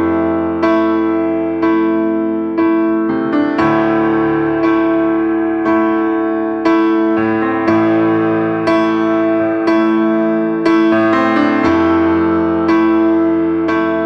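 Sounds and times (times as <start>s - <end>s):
gentle piano slow notes: 0.0s - 14.0s.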